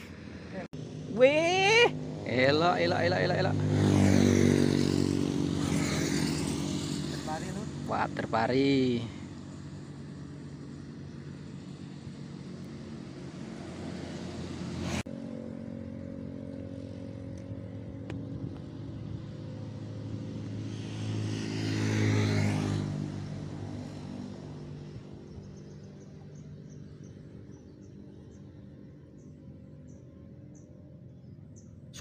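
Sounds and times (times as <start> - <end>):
vehicle engine passing: 0.0 - 31.1.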